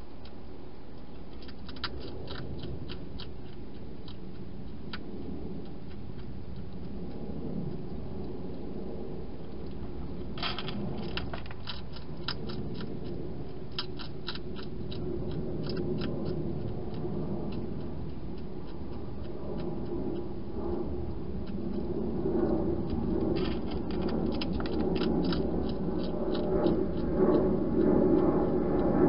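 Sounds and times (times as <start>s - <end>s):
hedgehog crunching dry food: 0.2s - 29.0s.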